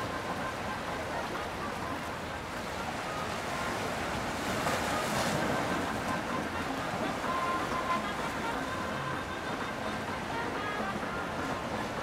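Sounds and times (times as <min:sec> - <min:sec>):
river water rushing: 0:00.0 - 0:12.0
wind: 0:00.0 - 0:12.0.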